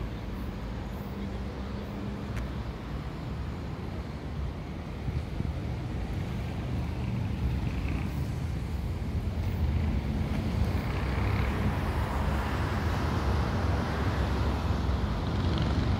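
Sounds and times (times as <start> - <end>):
road traffic: 0.0 - 15.9.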